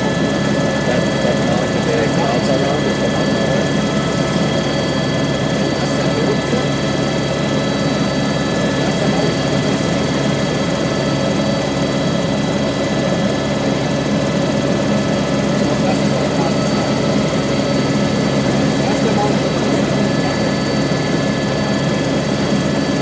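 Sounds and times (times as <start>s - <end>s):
helicopter rotor and engine drone: 0.0s - 23.0s.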